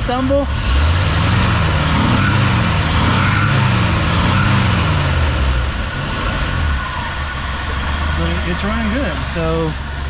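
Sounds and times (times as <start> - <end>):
engine revving and stumbling: 0.0 - 10.0.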